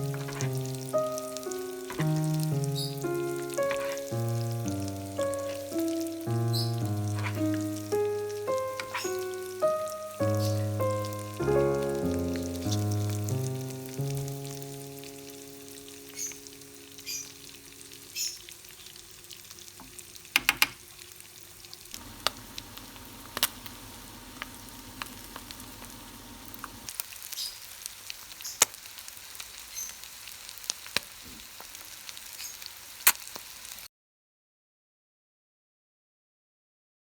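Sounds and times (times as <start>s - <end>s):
fat sizzling in a pan: 0.0s - 33.9s.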